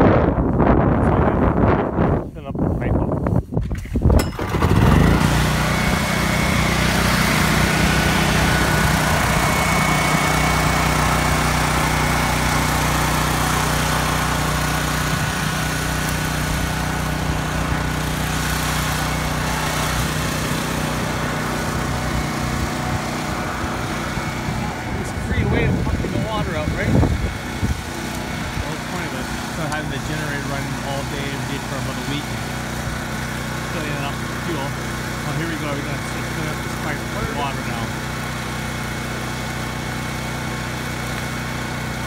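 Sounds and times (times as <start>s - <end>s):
generator engine running: 3.7s - 42.0s.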